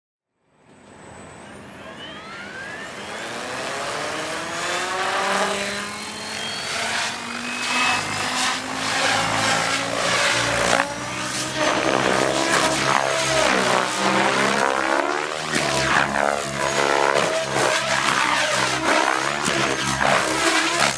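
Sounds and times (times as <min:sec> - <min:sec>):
electric motor whine: 0:00.8 - 0:20.9
rotor blades beating: 0:01.3 - 0:20.9.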